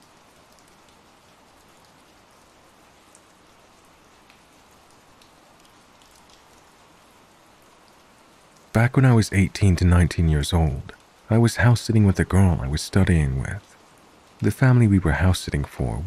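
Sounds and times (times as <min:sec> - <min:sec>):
faint steady rain: 0:00.0 - 0:16.0
raindrops ticking: 0:00.0 - 0:16.0.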